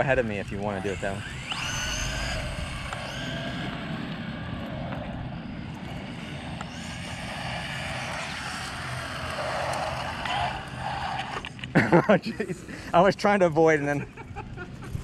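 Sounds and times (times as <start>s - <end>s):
rc car motors whining: 0.0s - 15.0s.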